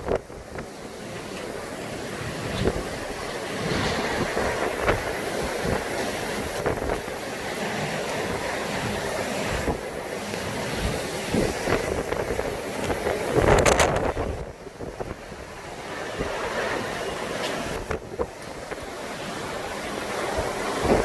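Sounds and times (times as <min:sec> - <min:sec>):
heavy rain pouring: 0:00.0 - 0:21.0
wind buffeting microphone: 0:00.0 - 0:21.0.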